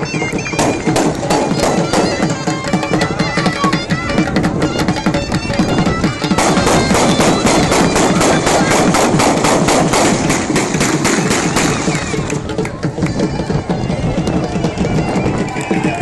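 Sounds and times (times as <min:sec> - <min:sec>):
fast drum beat: 0:00.0 - 0:16.0
reed pipe melody: 0:00.0 - 0:16.0.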